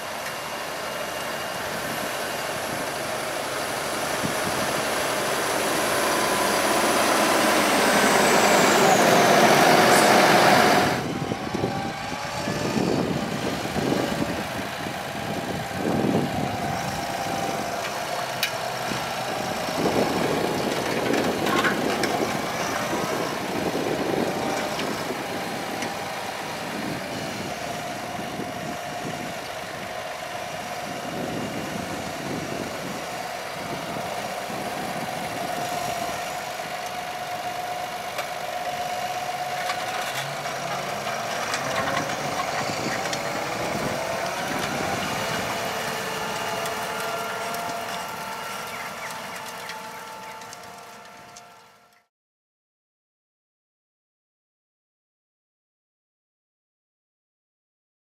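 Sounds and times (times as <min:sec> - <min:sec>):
tractor diesel engine running: 0:00.0 - 0:52.1.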